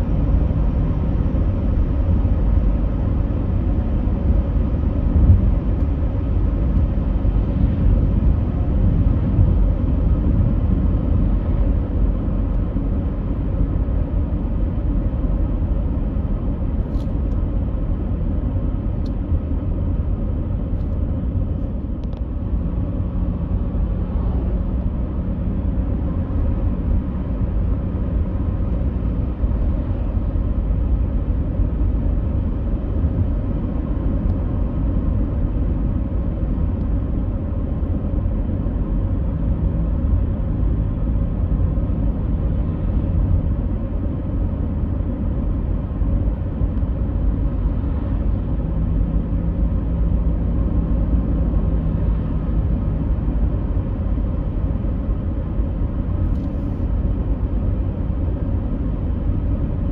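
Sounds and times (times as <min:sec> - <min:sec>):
steady low rumbling: 0:00.0 - 0:59.9.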